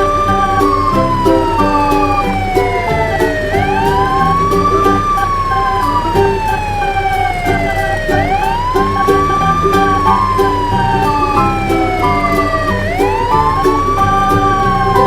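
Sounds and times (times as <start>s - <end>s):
background music with beat: 0.0s - 15.0s
siren wailing: 0.0s - 15.0s.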